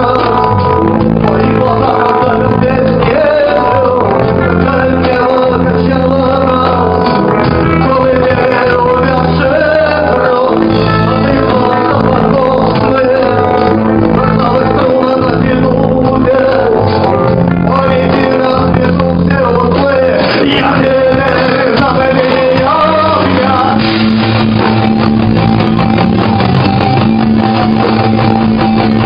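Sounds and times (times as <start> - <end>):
live band playing: 0.0 - 29.0
steady bass line: 0.0 - 29.0
wavering lead melody: 0.0 - 29.0.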